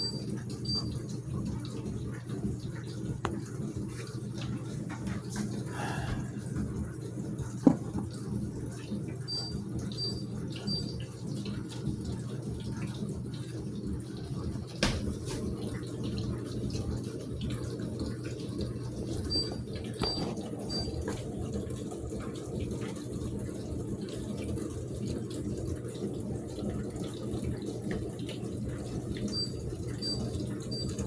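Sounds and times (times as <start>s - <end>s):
dishwasher motor hum: 0.0s - 31.0s.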